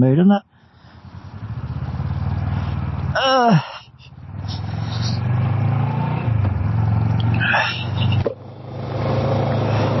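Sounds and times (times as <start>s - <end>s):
motorcycle engine running: 0.6s - 10.0s.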